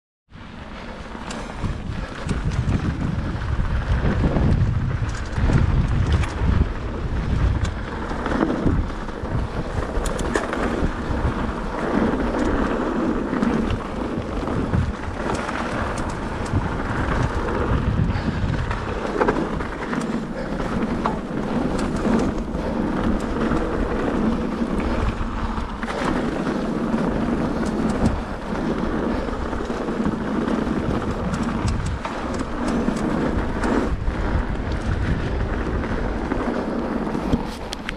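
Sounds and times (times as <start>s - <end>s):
bike rattling over bumps: 0.4s - 37.9s
wind buffeting microphone: 0.6s - 37.9s.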